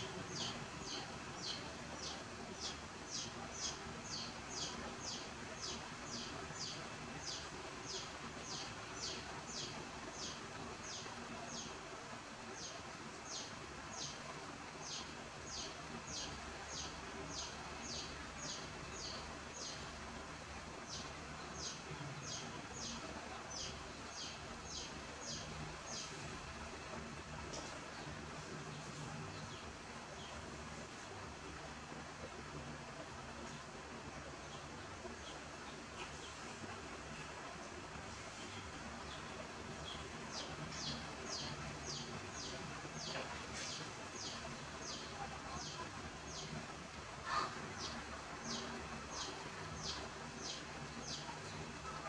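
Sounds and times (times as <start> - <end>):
faint background noise: 0.0 - 52.0.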